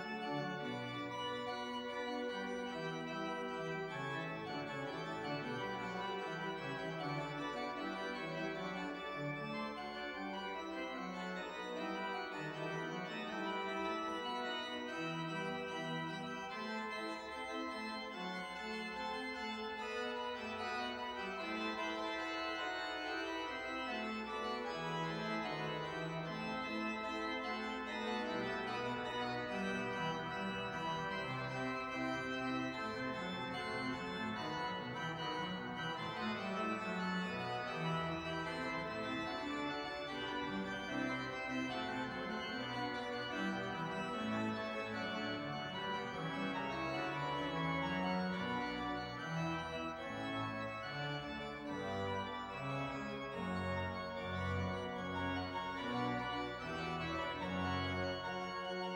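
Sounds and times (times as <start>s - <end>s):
pipe organ playing: 0.0s - 58.9s.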